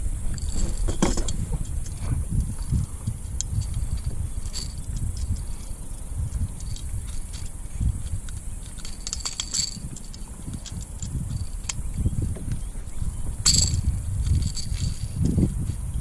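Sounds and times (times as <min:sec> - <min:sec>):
gear clicking and rattling: 0:00.0 - 0:16.0
wind and water rumble: 0:00.0 - 0:16.0.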